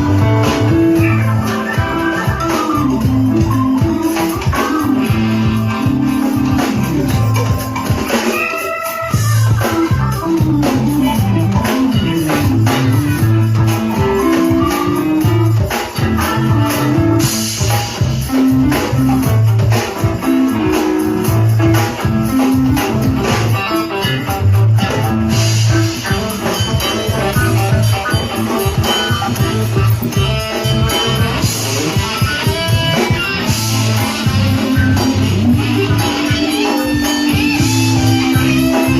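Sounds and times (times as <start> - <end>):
bass line: 0.0 - 38.9
live band instrumental groove: 0.0 - 38.9.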